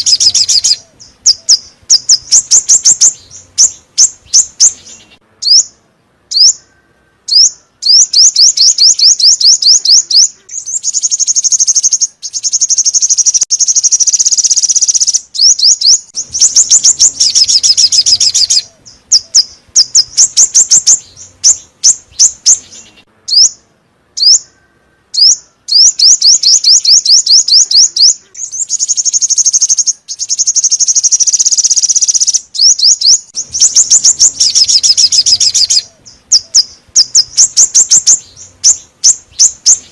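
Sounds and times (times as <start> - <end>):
bird song trills: 0.0 - 39.9.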